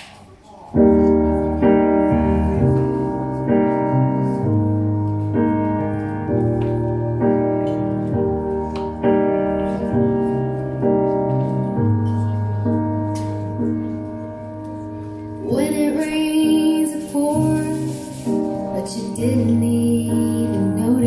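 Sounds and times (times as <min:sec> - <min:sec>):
piano chords over speaker: 0:00.0 - 0:21.0.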